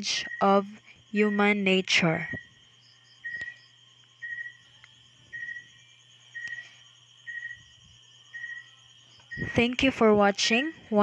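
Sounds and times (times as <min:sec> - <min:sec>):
cricket chirping: 0:00.0 - 0:11.0
faint low hum: 0:00.0 - 0:11.0.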